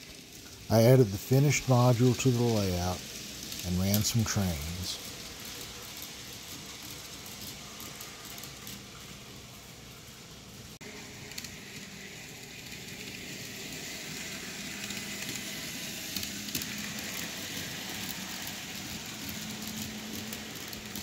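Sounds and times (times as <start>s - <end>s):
model train rumbling on track: 0.0s - 21.0s.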